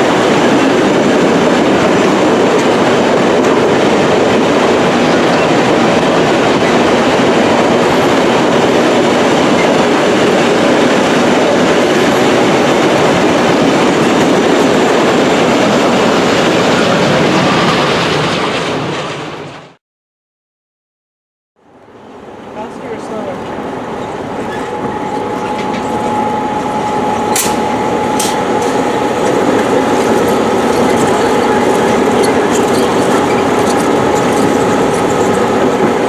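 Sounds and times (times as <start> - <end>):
train rumbling on rails: 0.0 - 19.8, 21.6 - 36.0.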